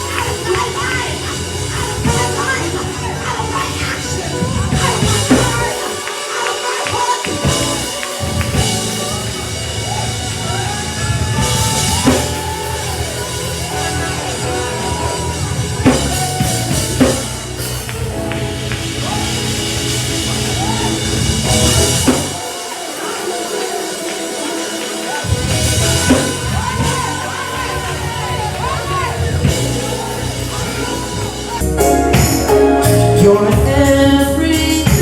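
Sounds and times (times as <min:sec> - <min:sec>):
live gospel band: 0:00.0 - 0:35.0.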